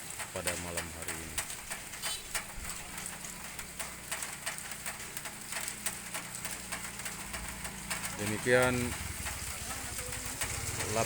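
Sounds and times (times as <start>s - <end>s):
rain falling: 0.0s - 11.0s
sharp drips and splashes: 0.0s - 11.0s.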